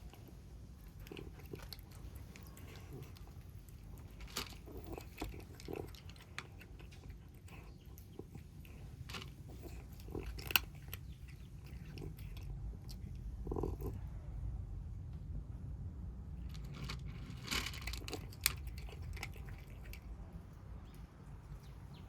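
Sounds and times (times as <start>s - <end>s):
kittens chewing and crunching: 0.0s - 22.0s.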